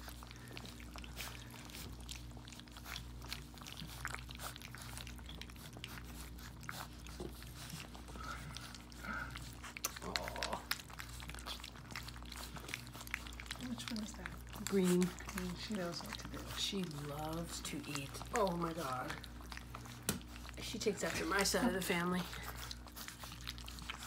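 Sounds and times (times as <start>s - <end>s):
puppies lapping and slurping: 0.0s - 24.0s.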